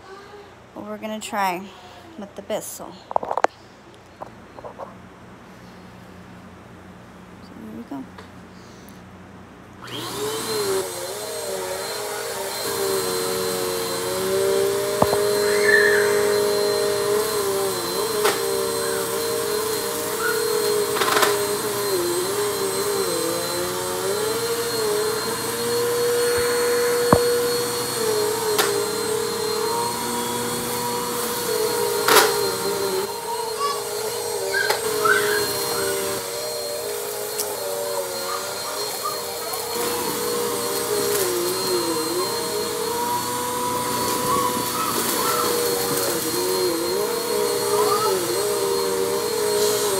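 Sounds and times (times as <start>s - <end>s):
upright vacuum running: 9.8s - 49.9s.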